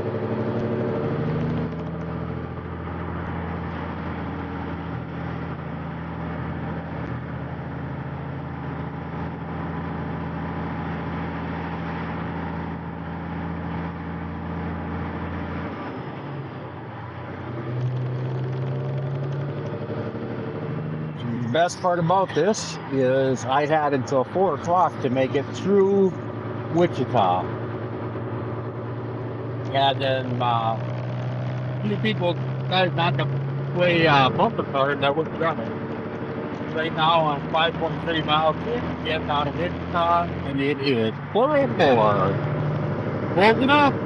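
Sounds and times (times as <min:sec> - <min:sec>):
road noise: 0:00.0 - 0:44.0
truck diesel engine: 0:00.0 - 0:44.0.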